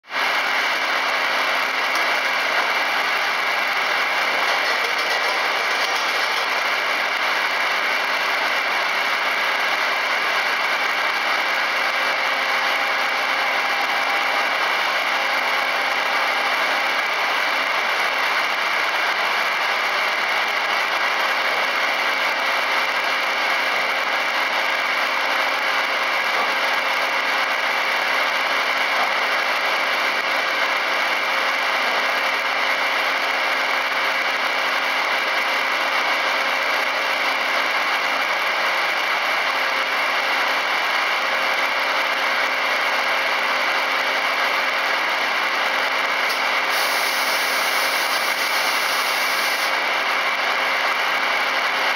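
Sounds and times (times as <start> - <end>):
circular saw running: 0.2 - 51.9.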